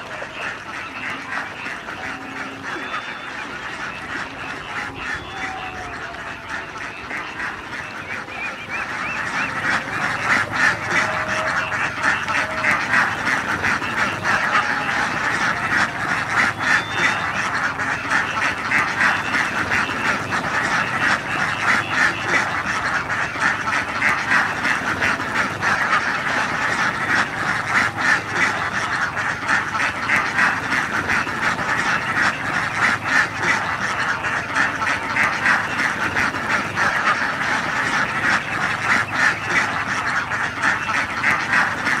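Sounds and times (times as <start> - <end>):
ducks quacking: 0.0 - 42.0.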